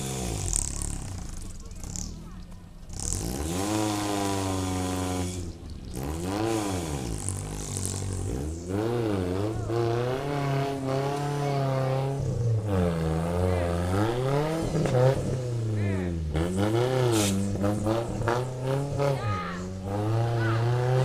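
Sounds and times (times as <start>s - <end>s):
off-road engine revving: 0.0s - 21.0s.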